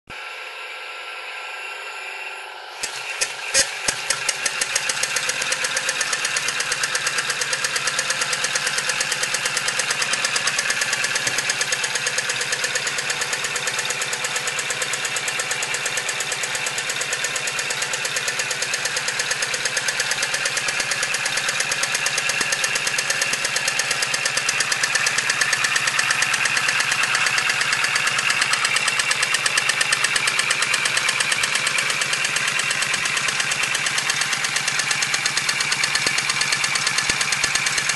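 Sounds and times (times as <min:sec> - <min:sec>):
model steam engine exhaust beats: 0:02.7 - 0:37.9.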